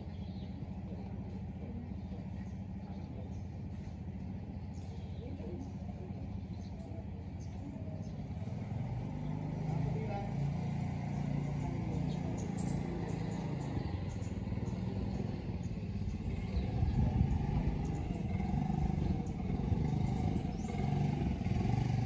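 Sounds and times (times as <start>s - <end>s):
motor scooter engine: 0.0s - 22.0s.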